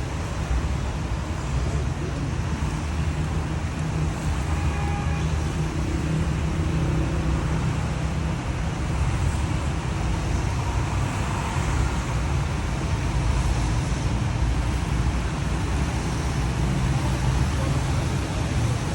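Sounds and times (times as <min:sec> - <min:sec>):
traffic engine rumble: 0:00.0 - 0:18.9
tyres hissing on wet road: 0:00.0 - 0:18.9.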